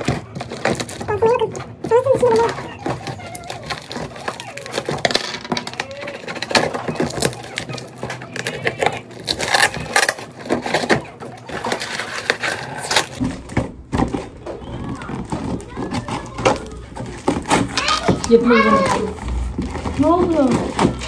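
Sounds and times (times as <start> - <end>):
package rustling and clattering: 0.0 - 21.0.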